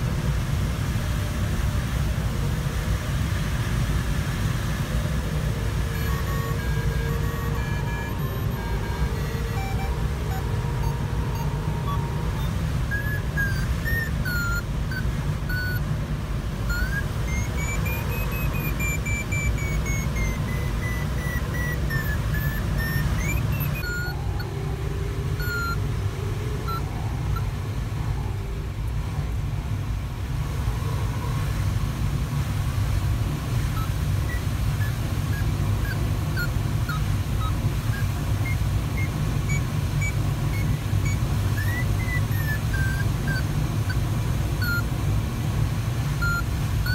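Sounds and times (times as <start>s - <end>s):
variometer beeping: 2.2s - 28.3s, 33.3s - 46.9s.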